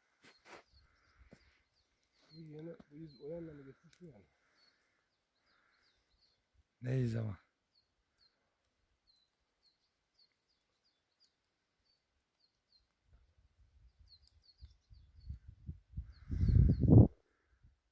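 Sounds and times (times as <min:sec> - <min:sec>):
small bird chirping: 0:00.0 - 0:06.6, 0:07.6 - 0:17.1.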